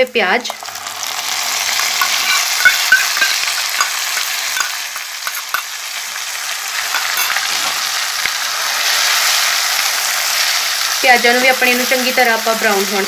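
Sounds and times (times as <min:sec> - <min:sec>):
onion puree sizzling in oil: 0:00.0 - 0:13.0.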